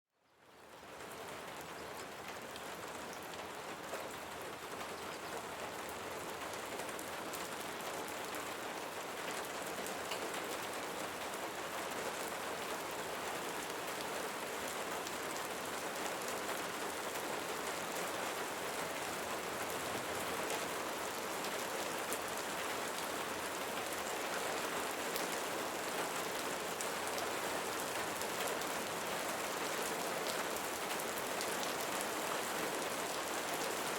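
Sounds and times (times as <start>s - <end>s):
steady rain falling: 0.2s - 33.9s.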